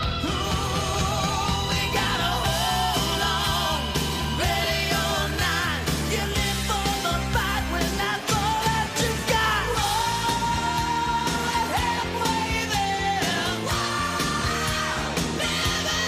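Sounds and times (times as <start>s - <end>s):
person singing: 0.0s - 16.0s
rock music: 0.0s - 16.0s.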